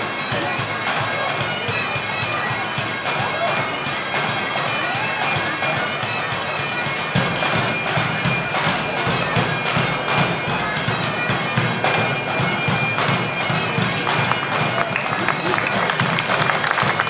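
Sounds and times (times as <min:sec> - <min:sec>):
bagpipes playing a tune: 0:00.0 - 0:17.0.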